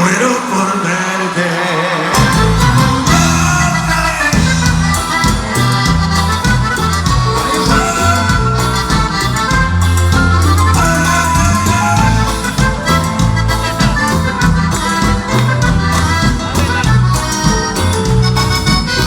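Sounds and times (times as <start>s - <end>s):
accordion melody: 0.8s - 19.0s
bass and percussion beat: 2.2s - 19.0s.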